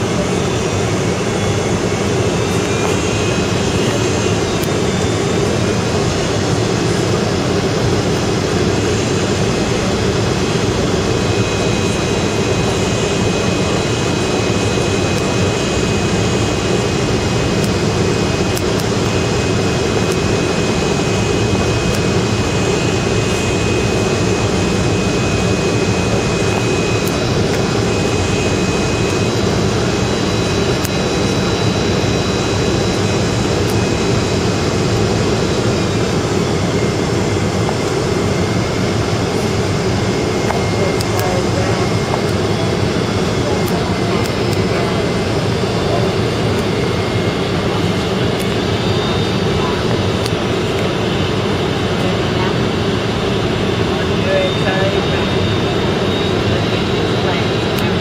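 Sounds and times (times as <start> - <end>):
jet engine and airflow noise: 0.0 - 58.0.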